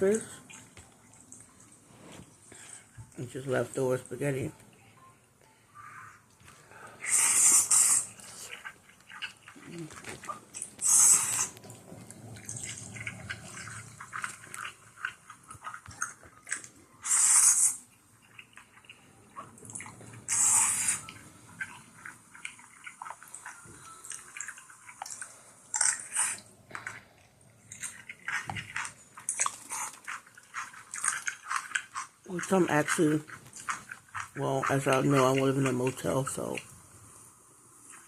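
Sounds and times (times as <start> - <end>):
person chewing spaghetti: 5.8 - 36.7.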